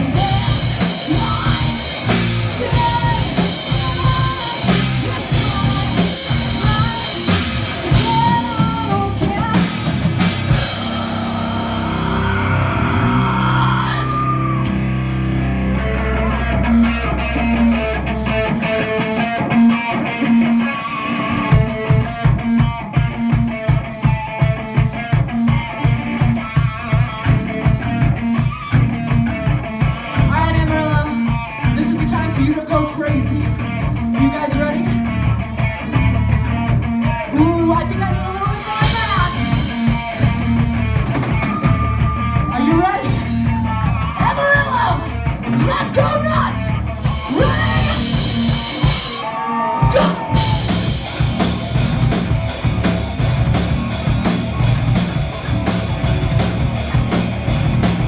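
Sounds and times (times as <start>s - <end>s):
fast kick drum beat: 0.0s - 11.2s, 21.6s - 49.2s, 49.8s - 58.0s
metal band playing: 0.0s - 58.0s.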